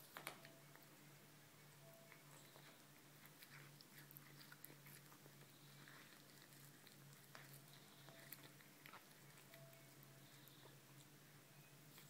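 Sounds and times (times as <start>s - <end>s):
cat chewing on a bone: 0.0s - 12.0s
low steady hum: 0.0s - 12.0s.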